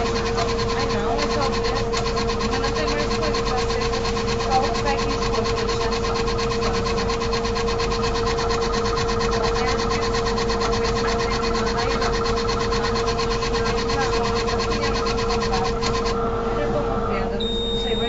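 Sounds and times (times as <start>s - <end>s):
small machine clattering: 0.0s - 16.2s
constant hum: 0.0s - 18.0s.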